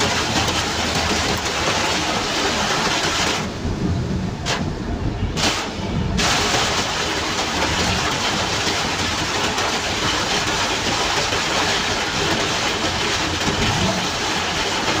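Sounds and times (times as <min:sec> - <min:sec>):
heavy rain on windscreen: 0:00.0 - 0:15.0
tyre spray and road noise: 0:00.0 - 0:15.0.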